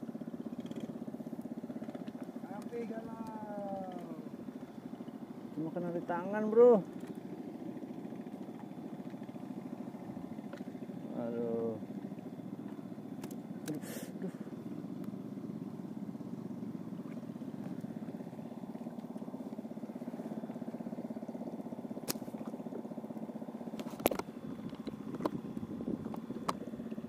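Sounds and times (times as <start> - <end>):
small boat engine running: 0.0 - 27.0.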